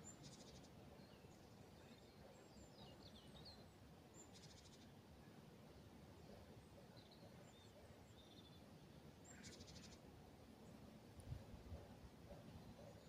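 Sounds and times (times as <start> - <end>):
small birds chirping: 0.0 - 11.3, 12.2 - 13.0.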